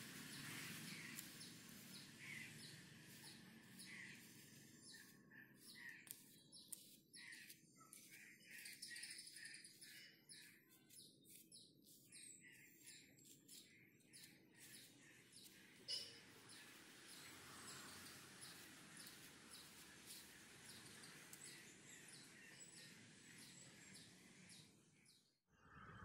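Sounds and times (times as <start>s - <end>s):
wire brush scraping bristles: 0.0s - 8.9s, 10.8s - 22.9s.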